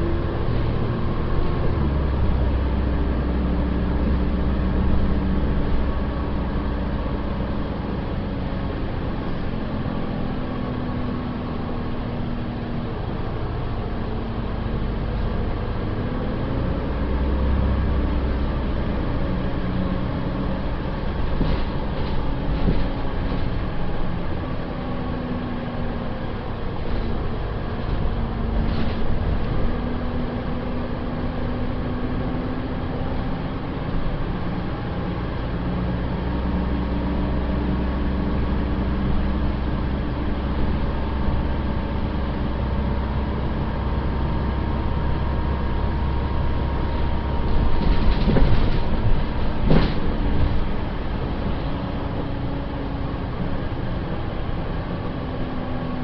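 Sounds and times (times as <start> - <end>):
bus diesel engine: 0.0 - 56.0
road noise: 0.0 - 56.0.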